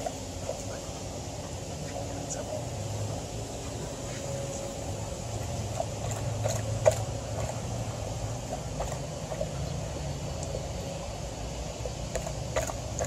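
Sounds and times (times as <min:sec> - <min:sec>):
dog lapping water: 0:00.0 - 0:13.0.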